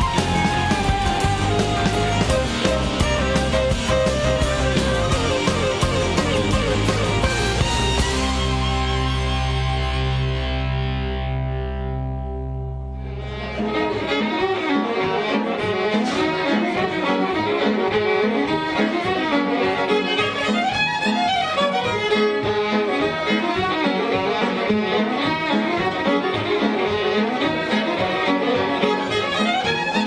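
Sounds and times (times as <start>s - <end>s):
fiddle and strings music: 0.0s - 11.8s, 12.7s - 30.0s.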